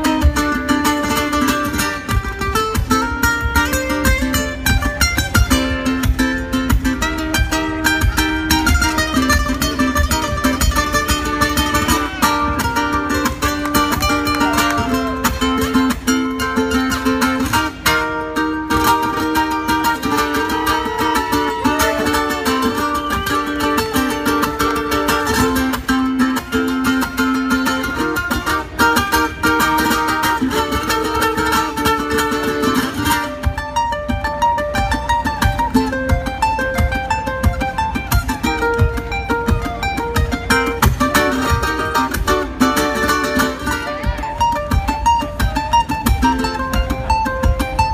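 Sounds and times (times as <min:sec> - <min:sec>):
plucked ukulele melody: 0:00.0 - 0:47.9
ukulele strumming: 0:00.0 - 0:47.9.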